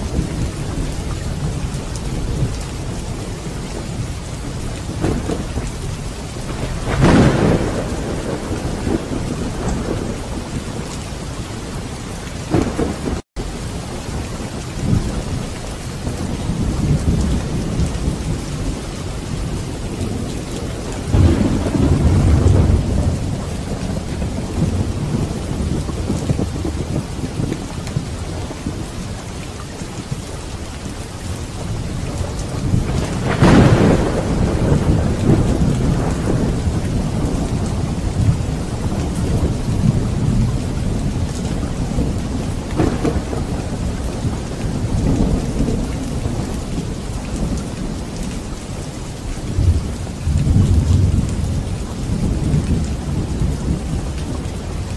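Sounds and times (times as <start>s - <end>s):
thunder rolling: 0.0s - 29.1s, 31.5s - 48.2s
steady rain: 0.0s - 54.9s.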